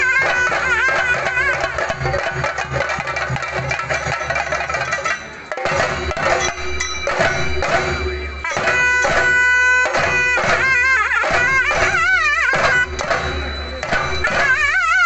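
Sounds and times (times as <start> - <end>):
drums beating: 0.0 - 15.0
wind instrument melody: 0.0 - 15.0.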